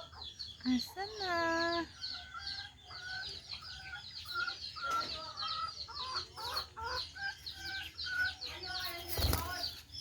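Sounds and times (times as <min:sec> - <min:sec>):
bird clucking calls: 0:00.0 - 0:10.0
birds chirping rapidly: 0:00.0 - 0:10.0.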